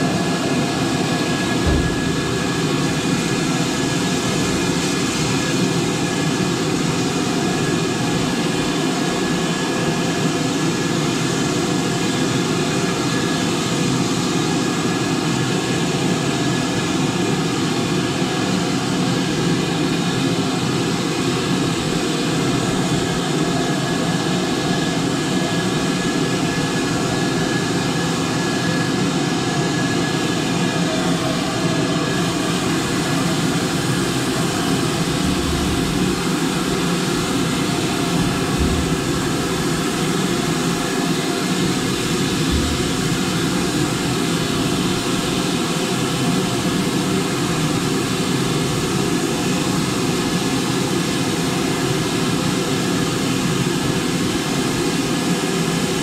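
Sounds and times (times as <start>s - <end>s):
steam locomotive rushing roar: 0.0s - 56.0s.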